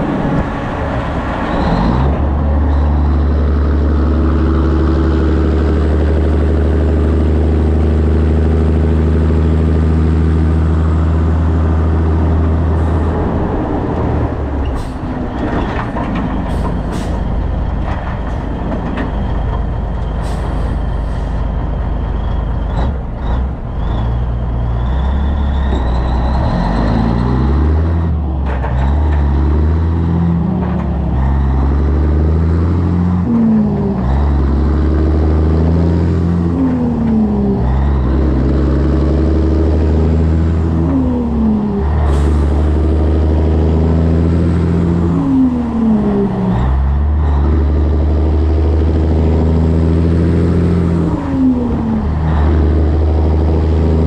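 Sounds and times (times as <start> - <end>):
diesel truck engine: 0.0 - 54.0
road noise: 0.0 - 54.0.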